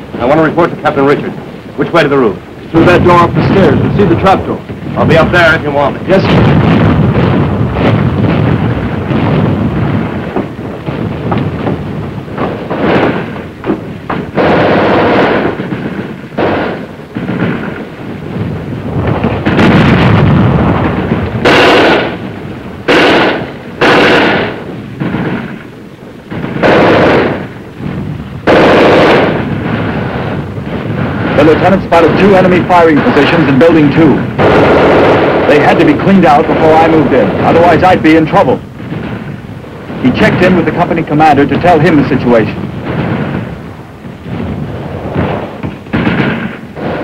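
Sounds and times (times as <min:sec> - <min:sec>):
loud gunfire bursts: 0:00.0 - 0:47.0
rifle shots: 0:00.1 - 0:47.0.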